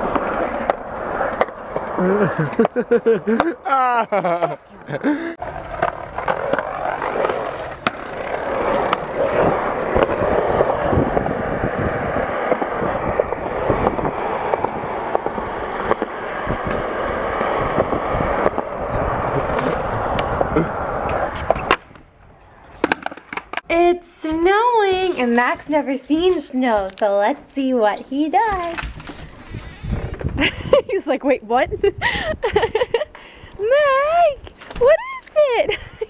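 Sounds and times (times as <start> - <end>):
skateboard wheels rolling on concrete: 0.0 - 36.0.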